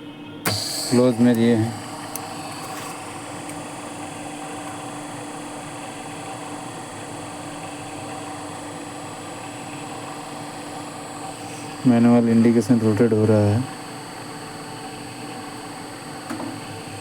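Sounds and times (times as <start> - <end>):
electric motor humming with whine: 0.4 - 17.0.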